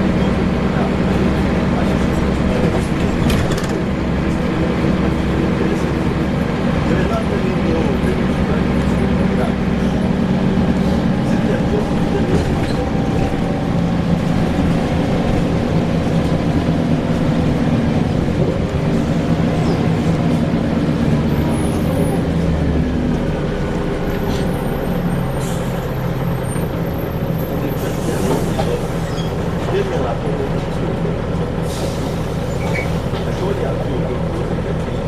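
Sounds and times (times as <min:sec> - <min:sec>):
bus engine running: 0:00.0 - 0:35.0.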